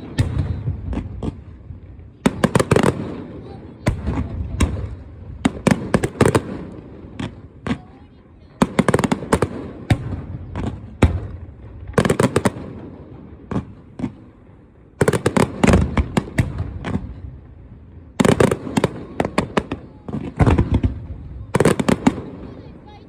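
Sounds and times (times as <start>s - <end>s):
fireworks bursting: 0.0s - 23.0s
low rumbling echo: 0.0s - 23.0s.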